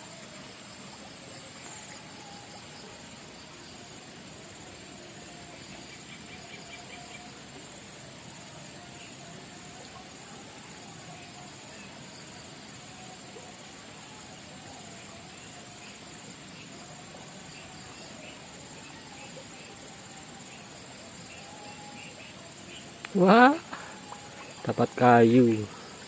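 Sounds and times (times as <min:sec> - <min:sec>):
faint background hiss: 0:00.0 - 0:26.0
insects trilling: 0:00.0 - 0:26.0.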